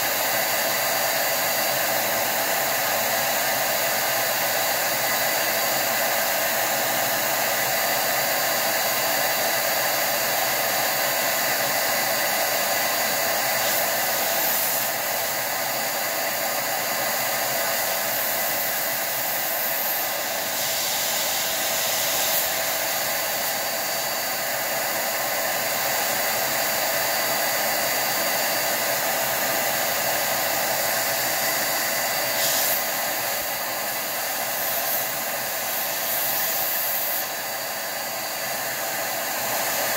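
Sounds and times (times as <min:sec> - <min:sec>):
electric duster blowing air: 0:00.0 - 0:39.9.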